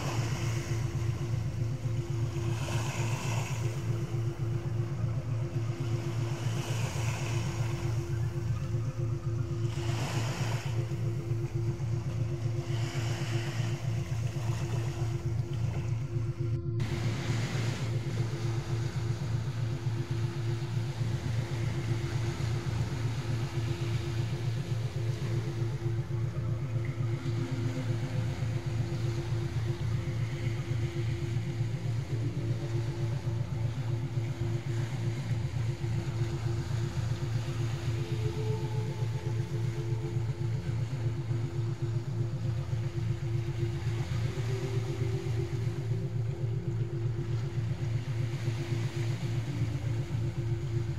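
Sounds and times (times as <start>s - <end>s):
low electronic pulsing drone: 0.0s - 50.9s
sea waves: 0.0s - 50.9s
steady high tone: 0.0s - 50.9s.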